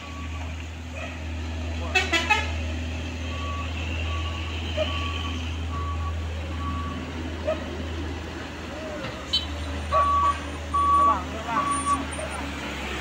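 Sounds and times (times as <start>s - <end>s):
truck diesel engine rumbling: 0.0s - 13.0s.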